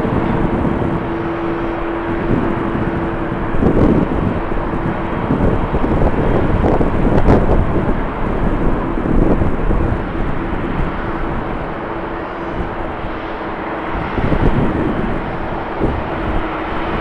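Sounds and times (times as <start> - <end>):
jet engine rushing: 0.0 - 17.0
wind buffeting microphone: 0.0 - 17.0.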